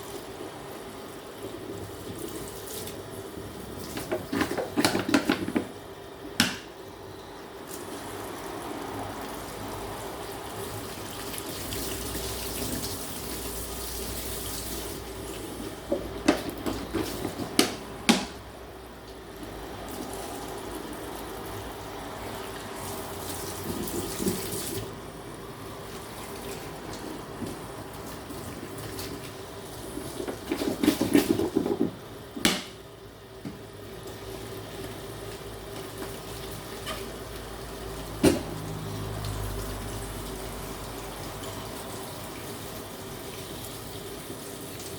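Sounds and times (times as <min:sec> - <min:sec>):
tap water running into sink: 0:00.0 - 0:06.7, 0:07.7 - 0:25.0, 0:25.6 - 0:32.8, 0:33.4 - 0:44.9.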